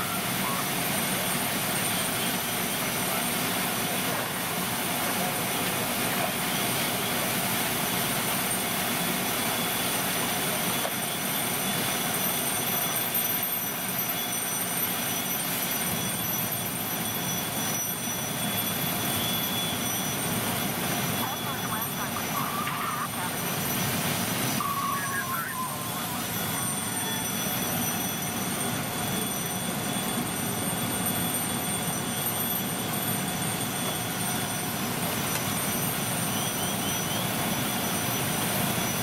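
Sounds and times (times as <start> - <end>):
diesel engine running: 0.0 - 39.0
faint high whine: 0.0 - 39.0.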